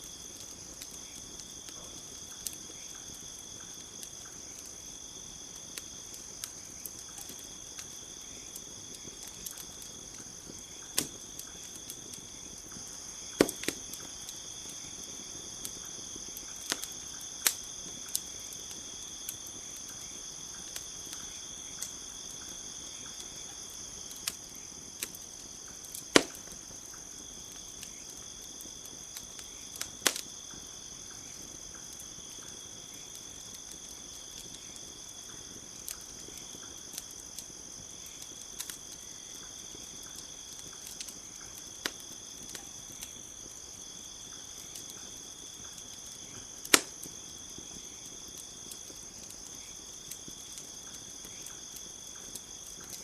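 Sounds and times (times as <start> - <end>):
campfire crackling and popping: 0.0 - 53.0
crickets trilling: 0.0 - 53.0.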